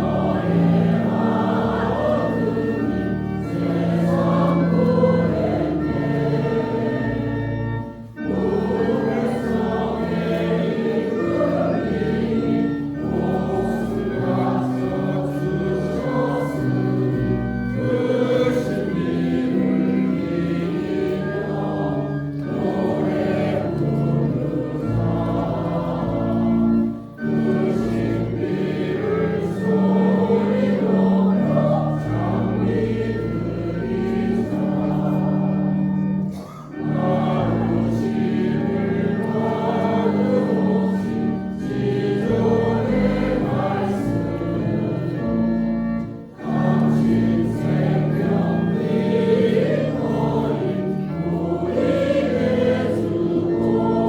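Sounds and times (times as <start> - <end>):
choir singing a hymn: 0.0 - 54.0
organ: 0.0 - 54.0.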